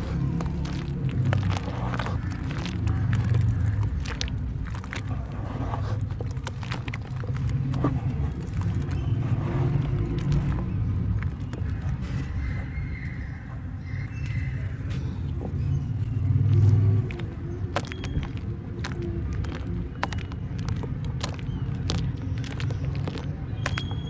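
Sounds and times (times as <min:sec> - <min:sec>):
steady low rumble: 0:00.0 - 0:23.6
wet mud squelches and splashes: 0:00.0 - 0:24.0.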